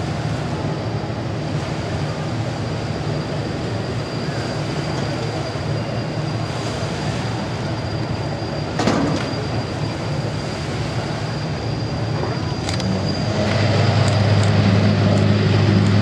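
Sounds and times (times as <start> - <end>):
rush of noise: 0.0 - 16.0
turboprop engines droning: 0.0 - 16.0.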